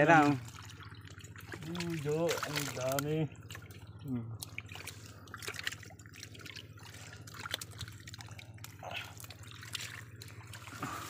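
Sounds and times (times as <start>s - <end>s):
stream water splashing and dripping: 0.0s - 11.0s.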